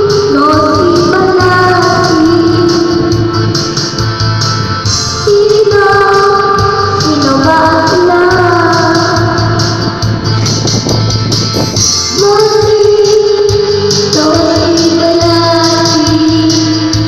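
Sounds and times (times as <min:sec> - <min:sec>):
song with sung melody and beat: 0:00.0 - 0:17.0.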